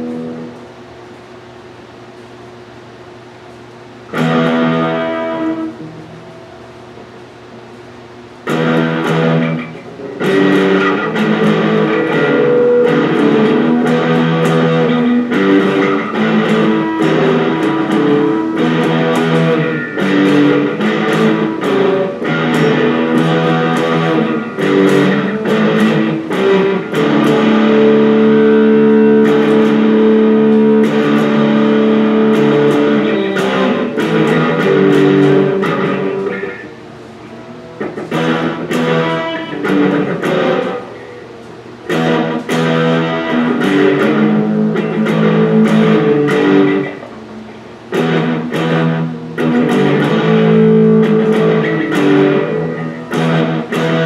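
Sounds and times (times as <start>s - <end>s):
electric guitar notes and chords: 0.0s - 1.3s, 3.9s - 54.0s.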